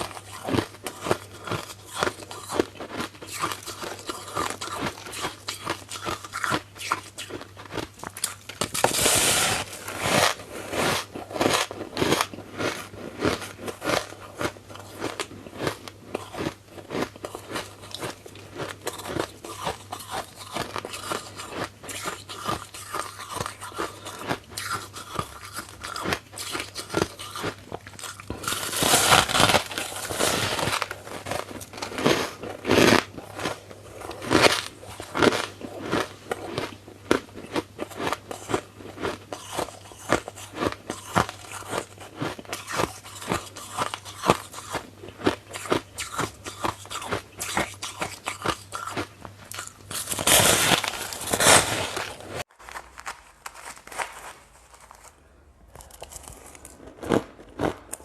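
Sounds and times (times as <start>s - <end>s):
crunching and crackling: 0.0s - 58.0s.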